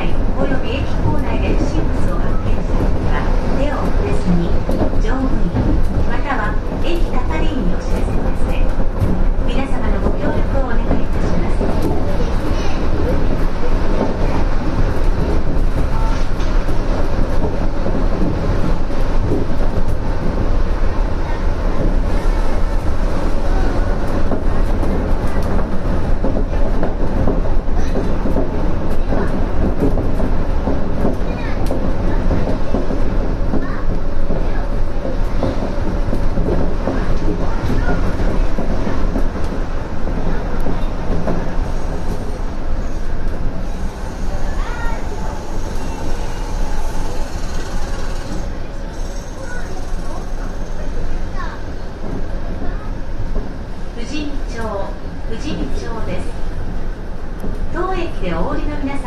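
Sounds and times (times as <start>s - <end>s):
monorail car rumbling: 0.0s - 59.0s.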